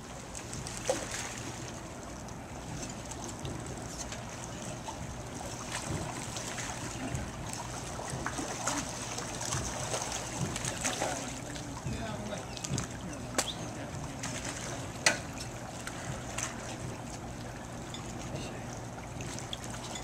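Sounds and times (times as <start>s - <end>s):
knocks and splashes: 0.0s - 2.0s, 2.6s - 20.0s
water lapping against rocks: 0.0s - 20.0s.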